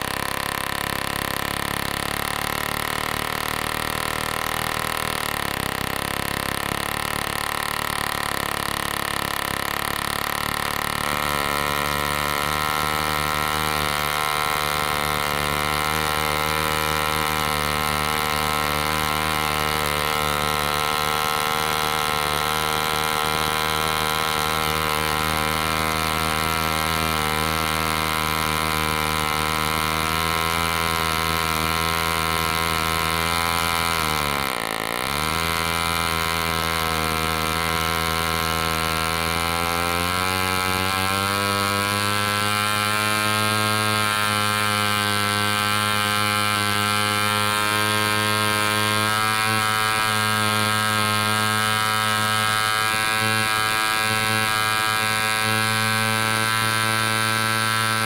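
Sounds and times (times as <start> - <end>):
model engine running flat out: 0.0 - 58.0.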